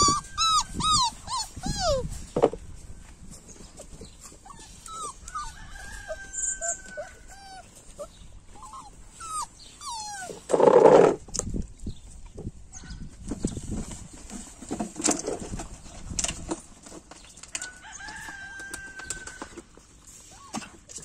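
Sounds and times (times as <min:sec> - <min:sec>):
puppies scuffling on paving: 0:00.0 - 0:21.0.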